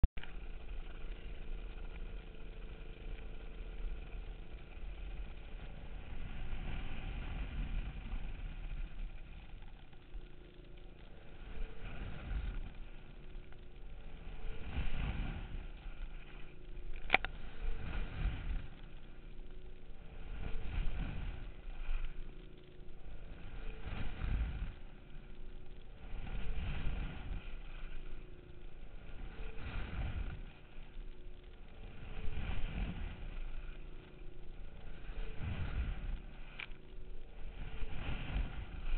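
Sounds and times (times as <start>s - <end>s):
wind: 0.0s - 38.9s
boat engine running: 0.2s - 38.9s.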